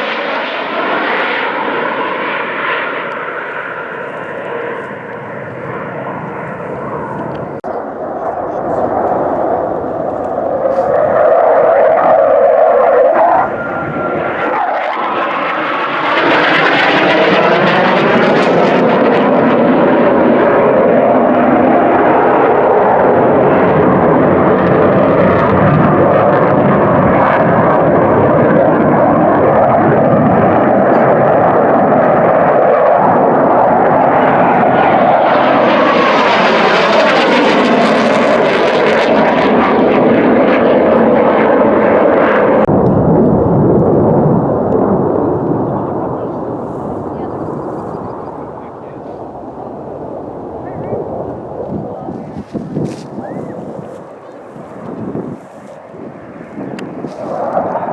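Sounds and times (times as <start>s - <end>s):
airplane engine running: 0.0s - 57.9s.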